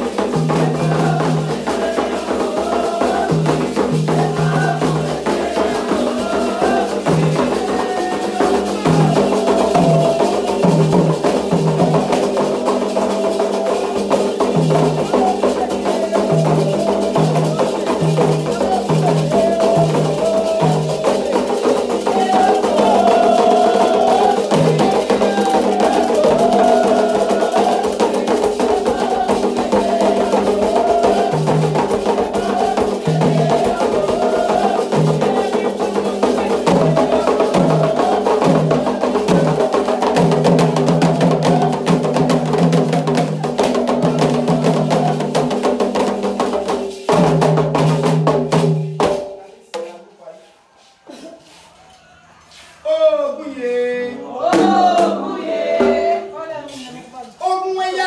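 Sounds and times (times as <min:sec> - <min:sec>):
hand drums: 0:00.0 - 0:50.0, 0:54.4 - 0:56.3
voices singing a chant: 0:00.0 - 0:58.0.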